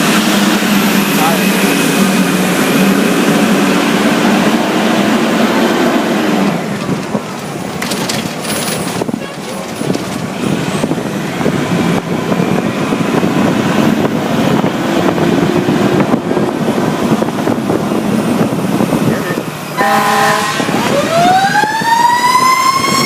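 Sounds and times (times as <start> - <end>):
truck engine and road noise: 0.0 - 23.0.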